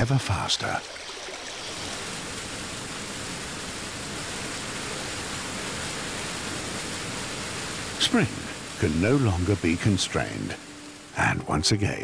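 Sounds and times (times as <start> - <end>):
rushing meltwater: 0.0 - 12.0.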